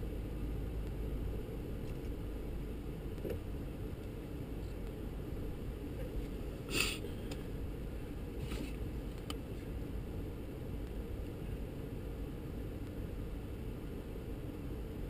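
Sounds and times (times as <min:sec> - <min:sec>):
low rumble inside vehicle cab: 0:00.0 - 0:15.0.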